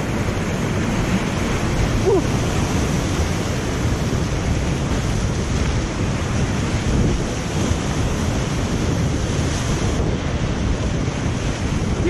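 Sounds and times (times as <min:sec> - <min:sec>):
river rapids roaring: 0:00.0 - 0:12.0
wind noise on microphone: 0:00.0 - 0:12.0.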